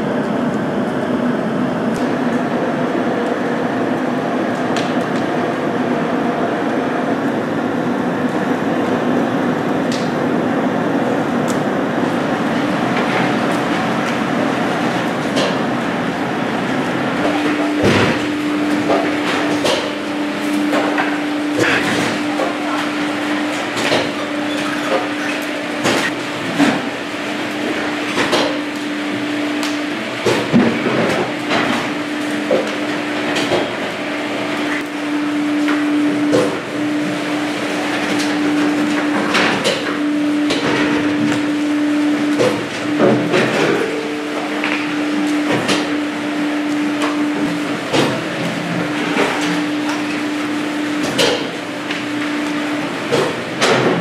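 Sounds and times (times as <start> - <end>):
constant hum: 0.0 - 54.0.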